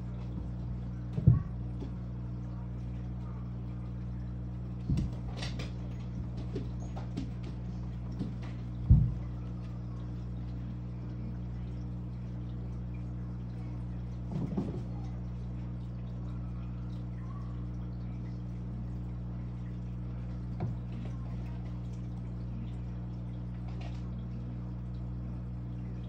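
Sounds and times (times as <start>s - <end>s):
aquarium pump humming: 0.0s - 26.0s
faint running water: 0.0s - 26.0s.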